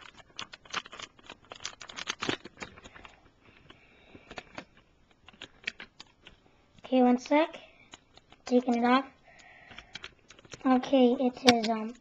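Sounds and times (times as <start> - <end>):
plastic bricks clicking and rattling: 0.0 - 6.4, 7.9 - 12.0.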